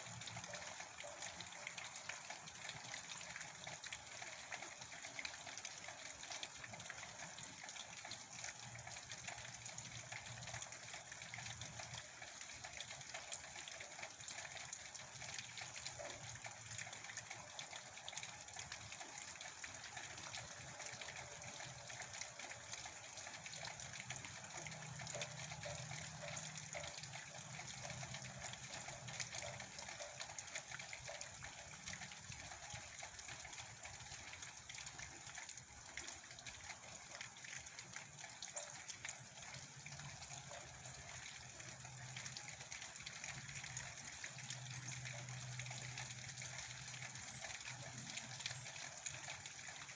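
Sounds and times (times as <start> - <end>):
steady rain patter: 0.0 - 49.9.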